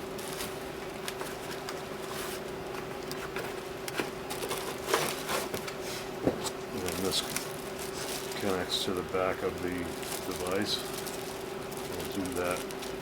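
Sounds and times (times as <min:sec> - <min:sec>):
steady low hum: 0:00.0 - 0:13.0
packaging rustling and clicking: 0:00.2 - 0:05.8, 0:06.4 - 0:13.0.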